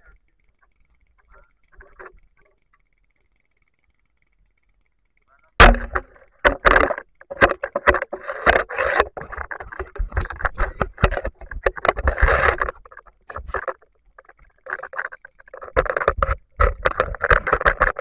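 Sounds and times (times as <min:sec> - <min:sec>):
sharp clicks and knocks: 0:00.3 - 0:18.0.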